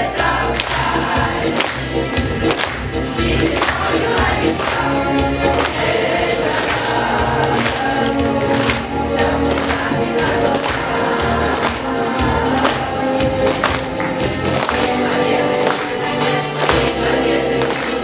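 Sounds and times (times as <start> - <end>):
backing track: 0.0 - 18.0
group of voices singing: 0.0 - 18.0
drum beat: 0.8 - 18.0.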